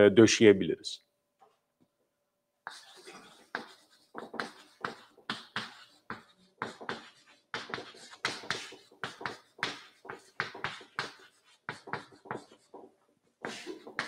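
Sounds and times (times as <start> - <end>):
chalk writing on chalkboard: 2.6 - 14.0.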